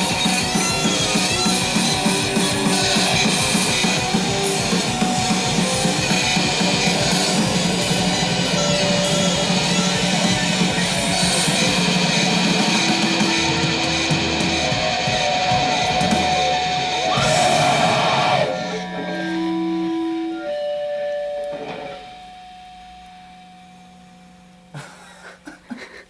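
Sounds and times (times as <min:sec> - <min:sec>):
held notes ringing: 0:00.0 - 0:25.0
rock music with guitar and drums: 0:00.0 - 0:25.0.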